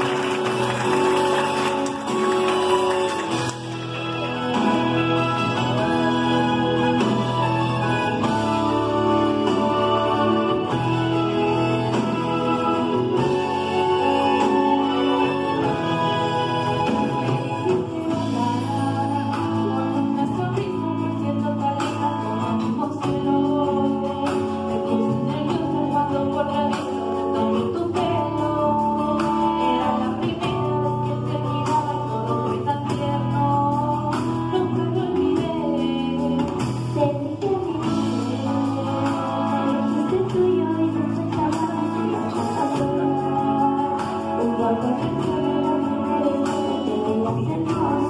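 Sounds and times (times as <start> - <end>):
instrumental backing: 0.0 - 48.0.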